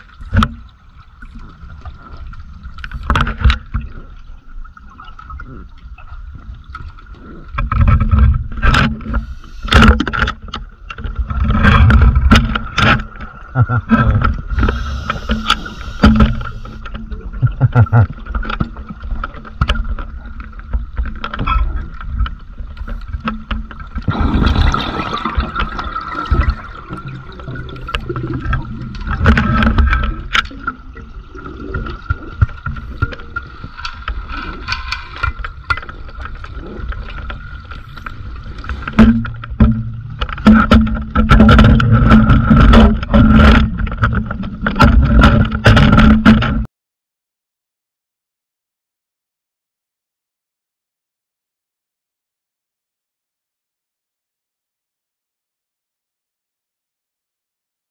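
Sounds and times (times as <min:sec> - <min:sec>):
underwater bubbling and gurgling: 0:00.0 - 0:46.7.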